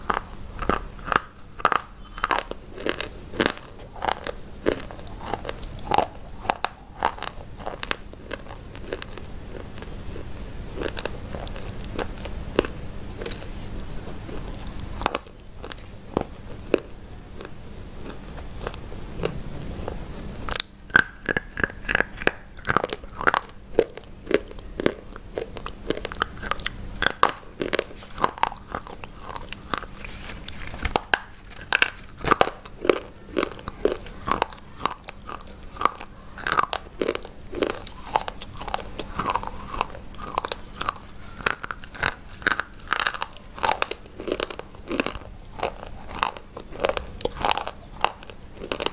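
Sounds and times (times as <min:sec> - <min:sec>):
crunching and chewing: 0:00.0 - 0:48.9.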